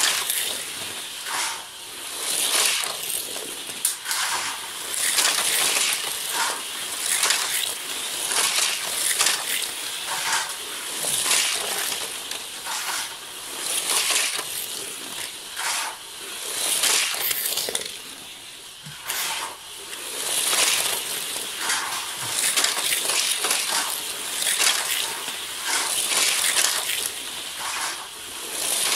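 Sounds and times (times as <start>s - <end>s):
plastic wheels rattling: 0.0s - 28.9s
toy car motors whirring: 0.0s - 28.9s.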